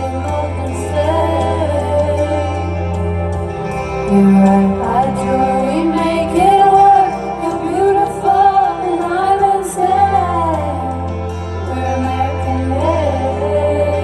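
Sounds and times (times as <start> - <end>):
wordless female vocal: 0.0 - 2.8, 4.1 - 11.0, 11.6 - 14.0
live band music: 0.0 - 14.0.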